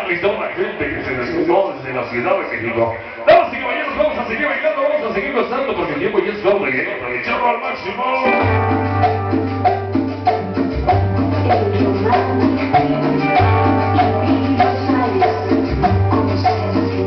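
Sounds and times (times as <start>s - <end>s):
loud latin dance music: 2.3s - 17.0s.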